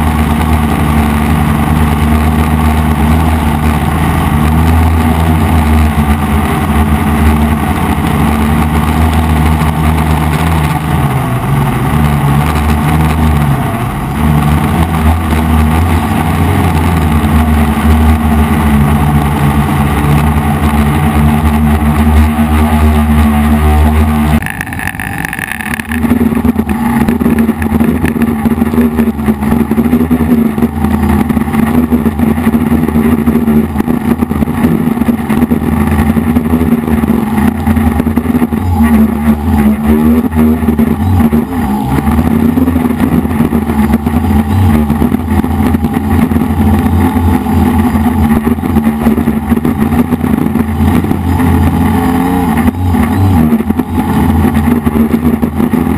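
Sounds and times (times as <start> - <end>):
quadcopter propellers buzzing: 0.0 - 55.9.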